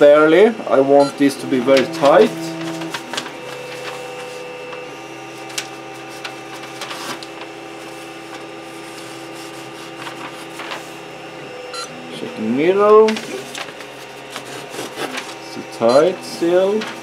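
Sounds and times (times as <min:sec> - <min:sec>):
printer humming: 0:00.0 - 0:17.0.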